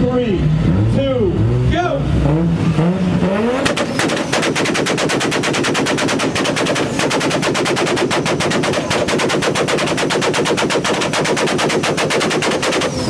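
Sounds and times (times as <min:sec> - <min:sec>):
car engine revving: 0:00.0 - 0:13.0
exhaust popping: 0:00.6 - 0:13.0.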